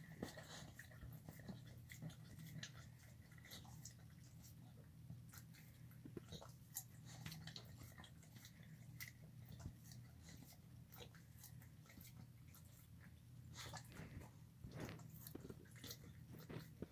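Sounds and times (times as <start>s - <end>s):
dog chewing food: 0.0s - 16.9s
dog lapping: 0.0s - 16.9s.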